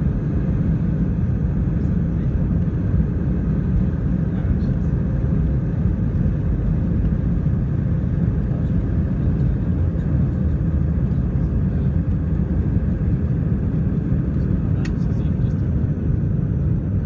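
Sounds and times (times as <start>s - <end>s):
airliner engines and wheels rumbling: 0.0s - 17.0s.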